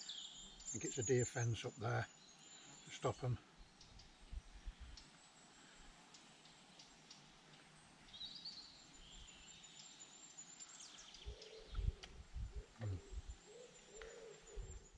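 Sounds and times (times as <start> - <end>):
birds chirping faintly: 0.0 - 14.9.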